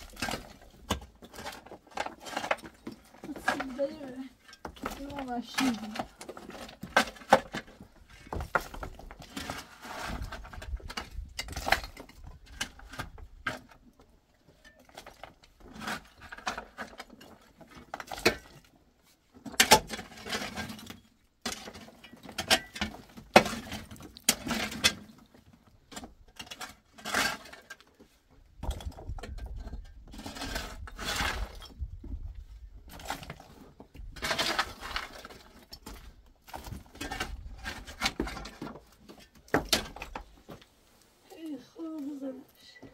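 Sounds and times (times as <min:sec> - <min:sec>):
objects knocking and rattling: 0:00.0 - 0:13.9, 0:19.4 - 0:40.7.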